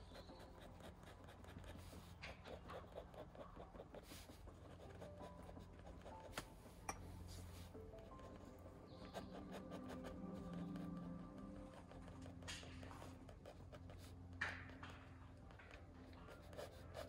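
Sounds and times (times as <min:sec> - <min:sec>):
pen nib scratching on paper: 0:00.0 - 0:17.0.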